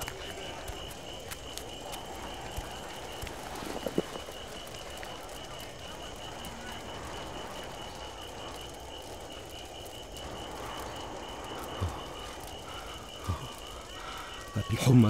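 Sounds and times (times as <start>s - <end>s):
chorus of night creatures: 0.0s - 15.0s.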